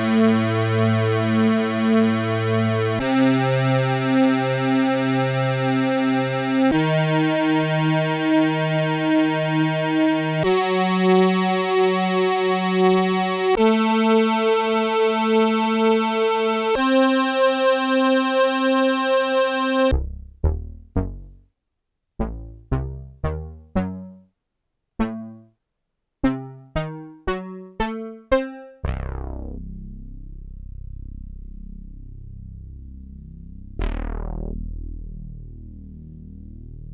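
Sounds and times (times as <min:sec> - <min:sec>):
synthesizer bass notes: 0:00.0 - 0:21.4, 0:22.2 - 0:24.2, 0:28.8 - 0:36.9.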